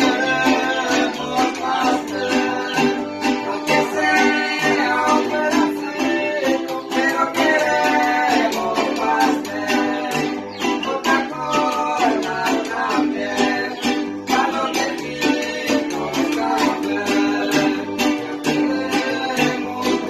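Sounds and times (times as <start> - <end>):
acoustic guitars strumming: 0.0 - 20.0.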